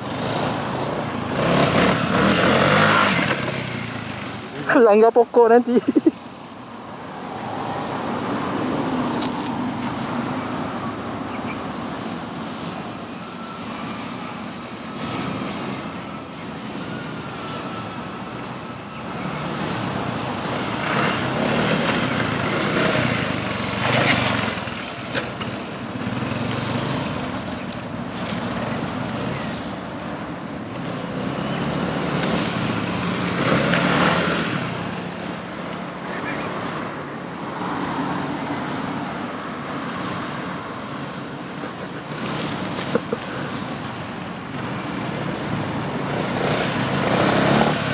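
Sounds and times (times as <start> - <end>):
vehicle engine and tyre noise: 0.0 - 47.9
vehicles passing: 0.0 - 47.9.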